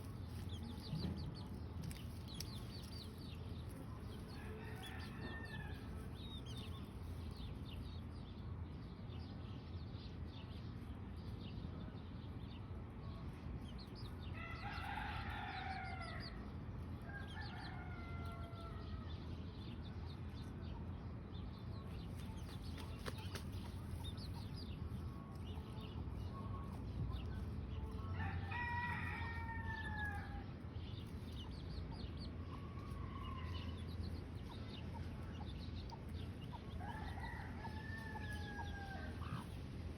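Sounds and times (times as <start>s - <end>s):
low background rumble: 0.0s - 39.9s.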